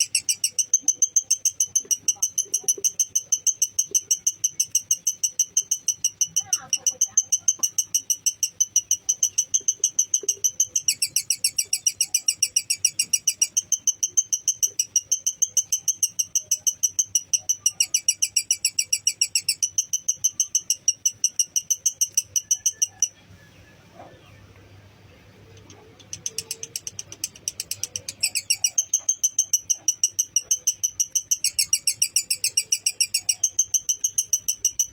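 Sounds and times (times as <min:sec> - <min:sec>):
bird chattering trill: 0:00.0 - 0:34.9.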